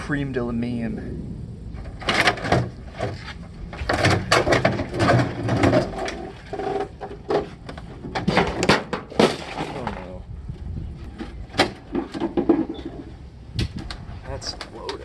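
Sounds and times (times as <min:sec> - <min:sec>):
hard parts knocking and scraping: 0:01.8 - 0:15.0.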